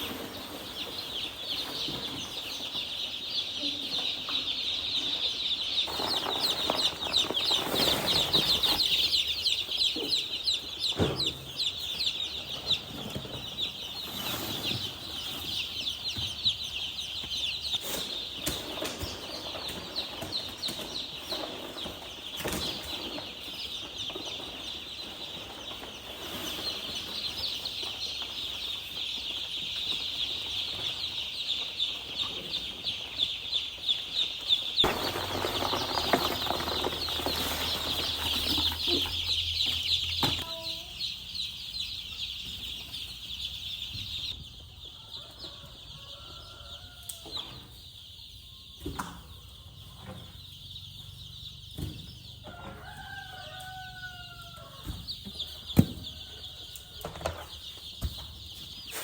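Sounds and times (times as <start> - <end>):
baby chicks peeping: 0.0 - 59.0
chickens calling: 0.0 - 59.0.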